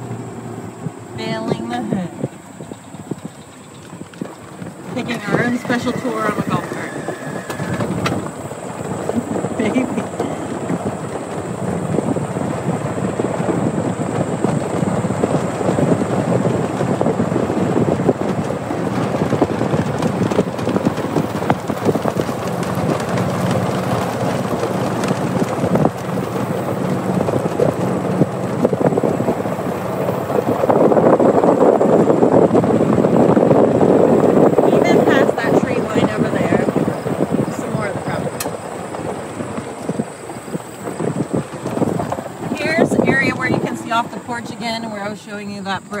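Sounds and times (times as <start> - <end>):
golf cart rumbling: 0.0 - 46.0
wind buffeting microphone: 0.0 - 46.0.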